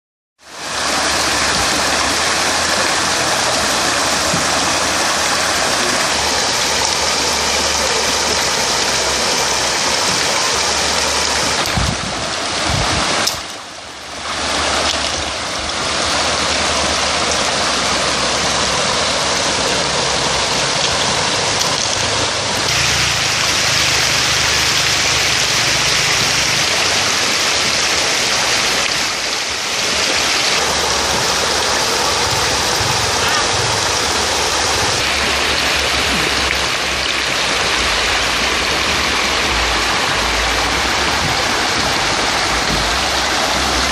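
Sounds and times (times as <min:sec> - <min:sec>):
water rushing over rocks: 0:00.4 - 0:43.9.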